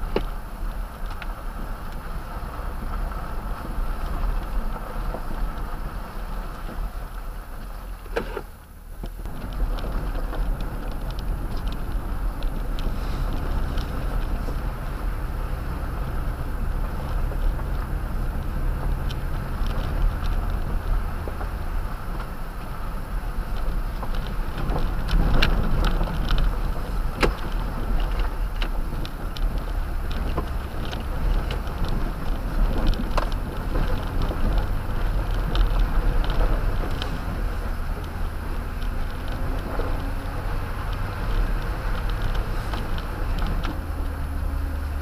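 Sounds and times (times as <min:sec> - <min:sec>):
engine and tyre rumble: 0:00.0 - 0:45.0
gravel clicks and knocks: 0:00.0 - 0:45.0.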